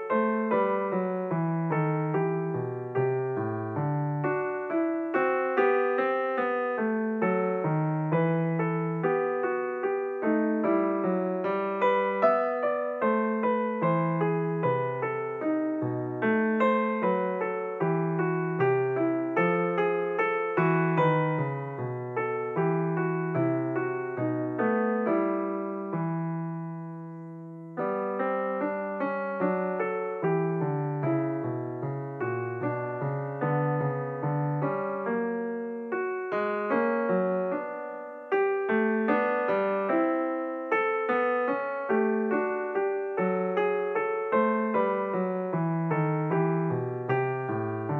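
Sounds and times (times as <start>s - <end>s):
solo piano music: 0.0s - 47.9s.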